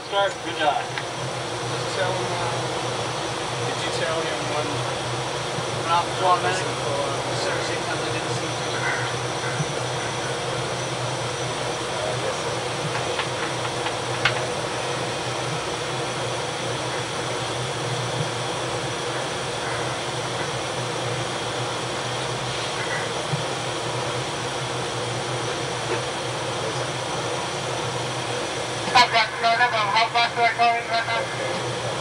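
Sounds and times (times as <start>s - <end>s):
engine room machinery humming: 0.0s - 32.0s.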